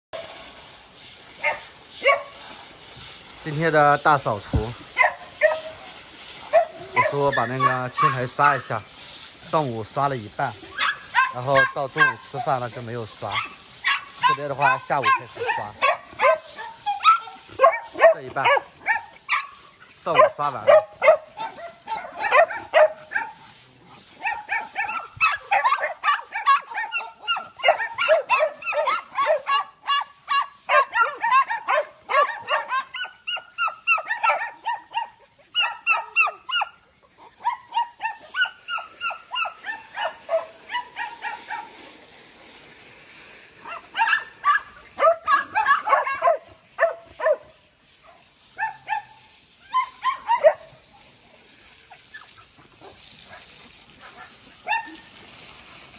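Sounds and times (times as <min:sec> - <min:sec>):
dogs barking and yapping: 0:01.2 - 0:09.6, 0:10.2 - 0:55.9.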